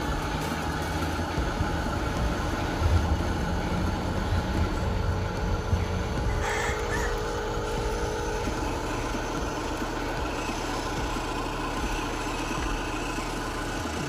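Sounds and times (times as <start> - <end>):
steady tones: 0.0 - 14.0
toy vehicle motor hum: 0.0 - 14.0.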